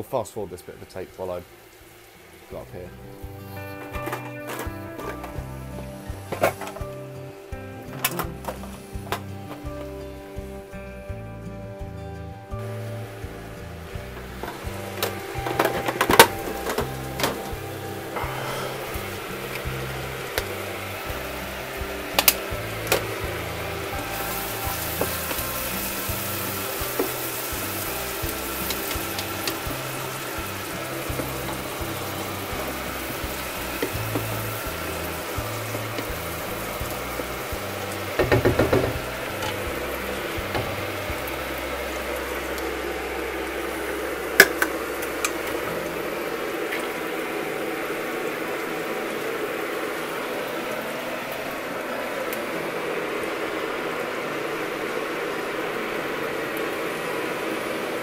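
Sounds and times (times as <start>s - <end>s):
background music: 0.0s - 58.0s
vegetables sizzling in a wok: 0.0s - 58.0s.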